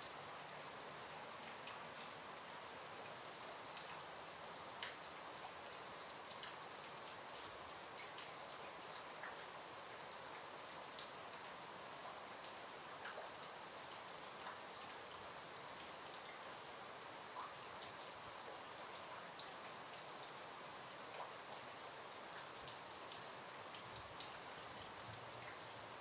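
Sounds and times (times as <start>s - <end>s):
raindrops ticking close by: 0.0s - 26.0s
steady rain falling: 0.0s - 26.0s.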